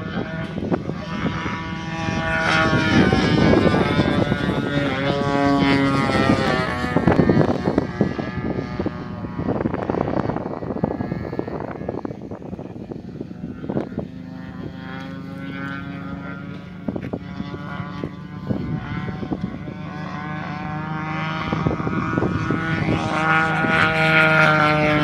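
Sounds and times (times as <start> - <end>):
model plane engine fly-past: 0.0 - 25.0.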